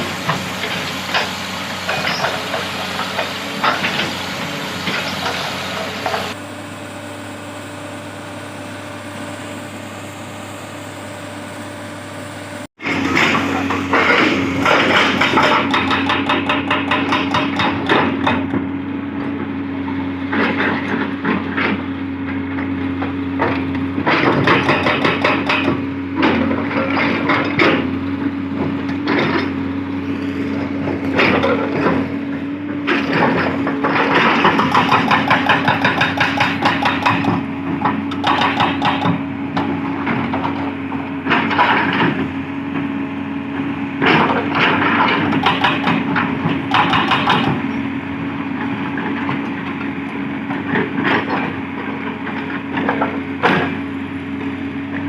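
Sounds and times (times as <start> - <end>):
hydraulic breaker hammer pounding rock: 0.0 - 6.4, 12.8 - 18.7, 20.3 - 29.6, 30.5 - 42.9, 44.0 - 55.0
diesel engine running: 0.0 - 55.0.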